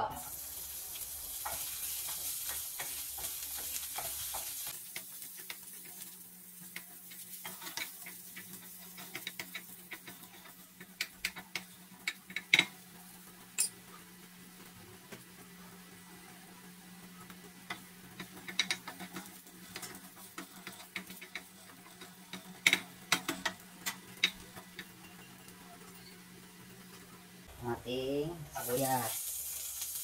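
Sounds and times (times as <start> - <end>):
garlic sizzling in hot oil: 0.1 - 27.5, 28.1 - 30.0.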